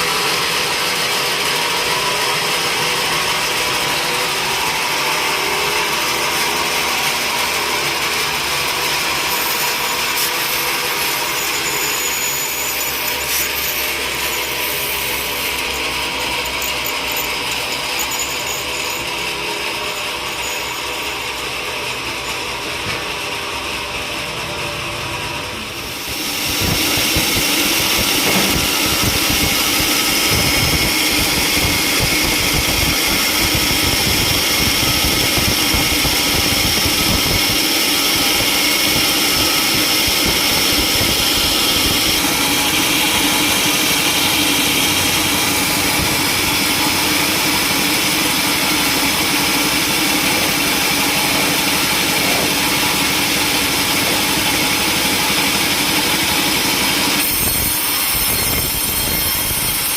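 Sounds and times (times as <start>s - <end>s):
saw whining: 0.0s - 59.9s.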